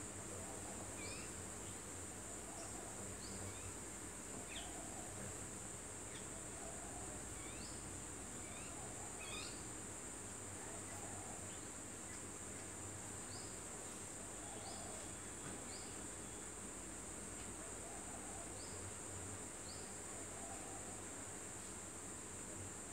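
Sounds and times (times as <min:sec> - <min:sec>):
insect chorus: 0:00.0 - 0:22.9.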